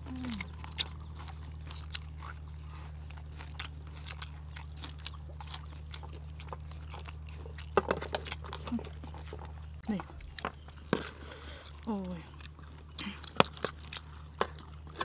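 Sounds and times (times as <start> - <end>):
low hum: 0.0 - 15.0
people chewing crispy food: 0.0 - 15.0.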